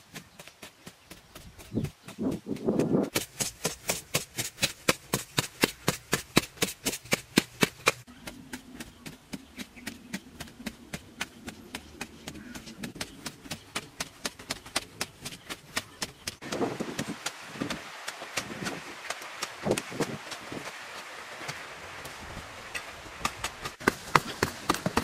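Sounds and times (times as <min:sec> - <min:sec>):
hoe chopping dry soil: 0:00.0 - 0:25.0.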